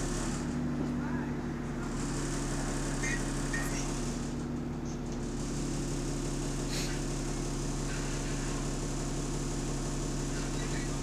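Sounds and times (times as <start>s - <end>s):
diesel bus engine droning: 0.0s - 11.0s.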